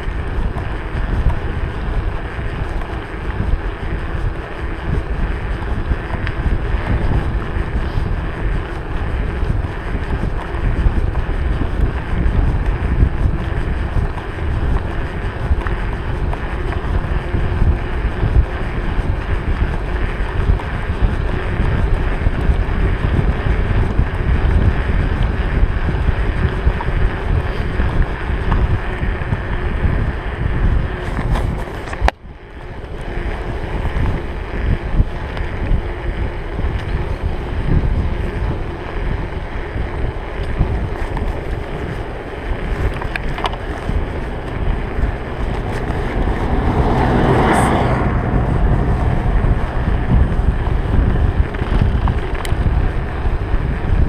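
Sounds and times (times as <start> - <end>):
bike tyre road noise: 0.0 - 54.0
wind rushing over microphone: 0.0 - 54.0.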